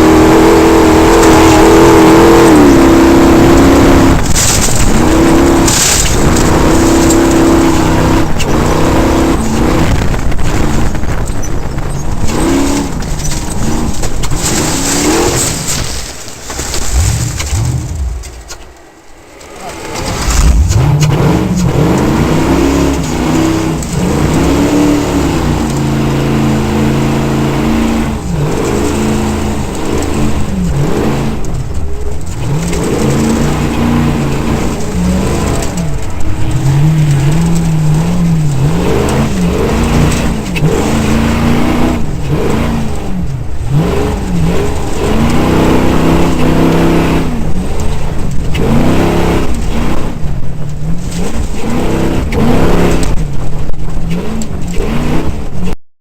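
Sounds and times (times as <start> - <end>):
race truck engine revving: 0.0 - 55.8.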